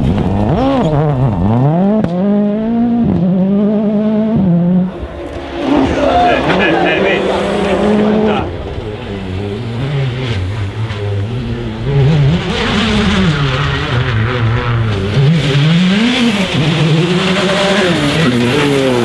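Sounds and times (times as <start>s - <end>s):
rally car engine at full throttle: 0.0s - 19.0s.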